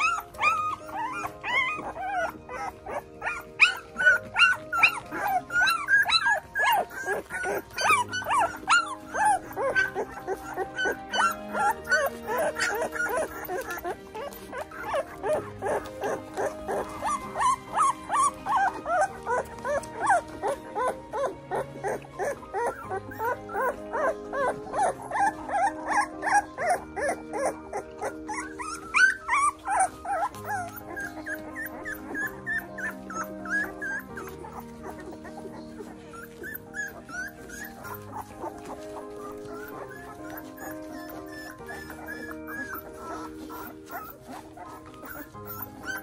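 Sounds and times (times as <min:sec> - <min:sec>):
puppies squeaking and whimpering: 0:00.0 - 0:46.0
soft background music: 0:00.0 - 0:46.0.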